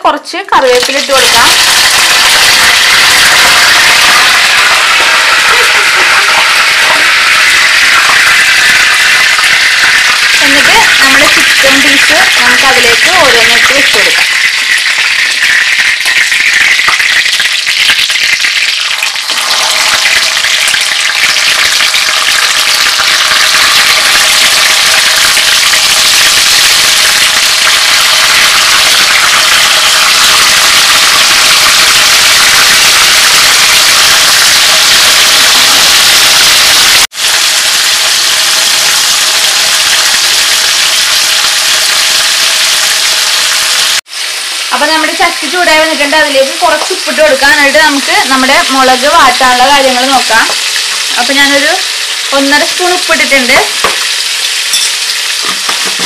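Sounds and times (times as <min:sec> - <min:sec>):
chicken sizzling in hot oil: 0:00.6 - 0:56.0.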